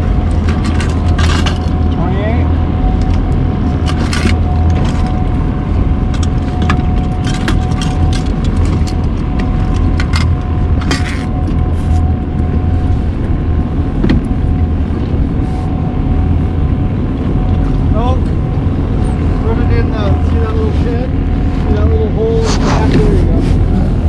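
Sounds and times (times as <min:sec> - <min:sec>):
boat motor droning: 0:00.0 - 0:24.0
steady whine: 0:00.0 - 0:24.0.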